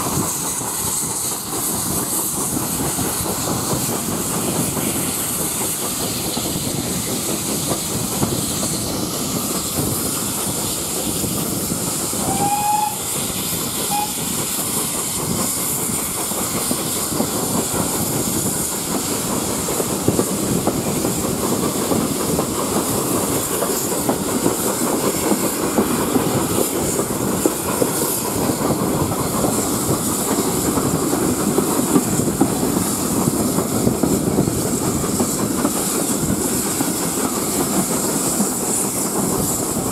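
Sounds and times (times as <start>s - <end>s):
steam locomotive hissing: 0.0s - 39.9s
train wheels running on rails: 0.0s - 39.9s.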